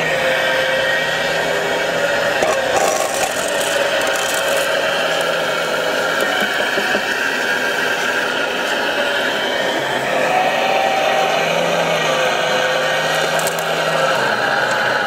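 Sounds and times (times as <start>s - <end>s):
hydraulic pump whining: 0.0s - 15.0s.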